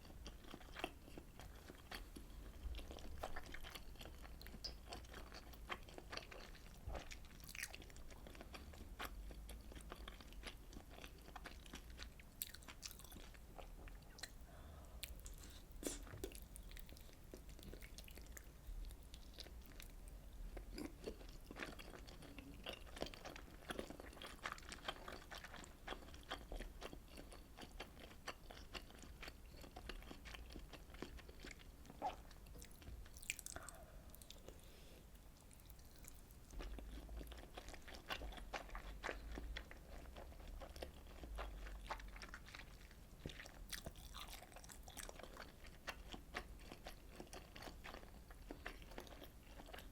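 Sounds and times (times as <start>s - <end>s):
close chewing with mouth sounds: 0.0s - 49.9s
low steady hum: 0.0s - 49.9s.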